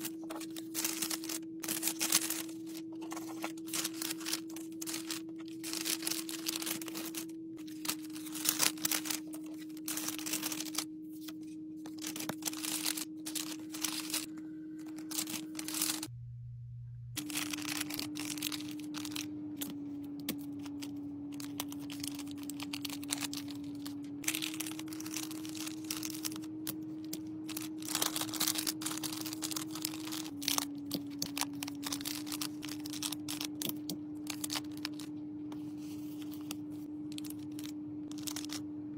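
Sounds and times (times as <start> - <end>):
paper rustling and crinkling: 0.0 - 16.1, 17.2 - 38.6
steady low tone: 0.0 - 35.8.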